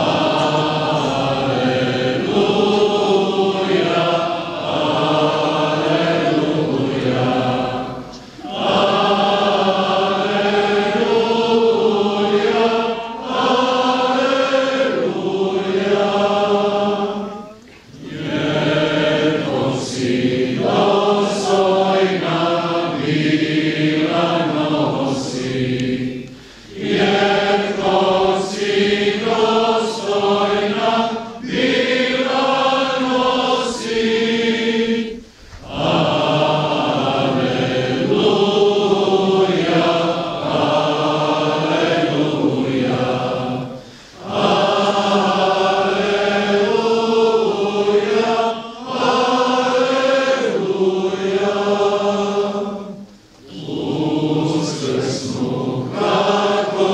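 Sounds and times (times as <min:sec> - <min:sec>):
voices singing a chant: 0:00.0 - 0:56.9.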